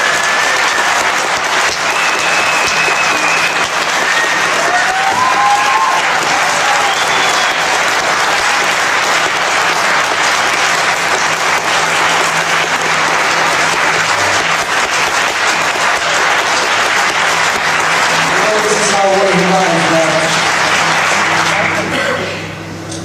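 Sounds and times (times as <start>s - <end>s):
audience applauding: 0.0s - 22.6s.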